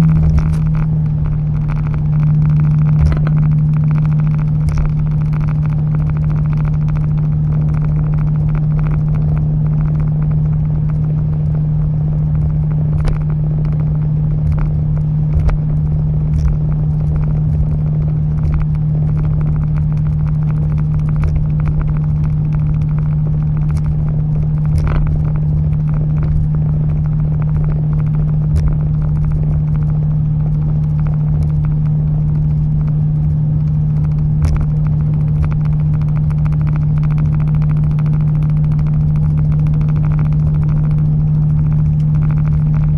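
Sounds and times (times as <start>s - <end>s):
car exhaust drone in cabin: 0.0s - 42.9s
low rumble: 0.0s - 42.9s.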